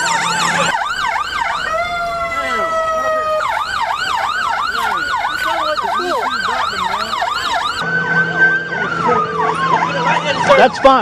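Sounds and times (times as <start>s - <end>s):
siren held tone sliding down: 0.0s - 10.9s
police siren yelping: 0.0s - 11.0s.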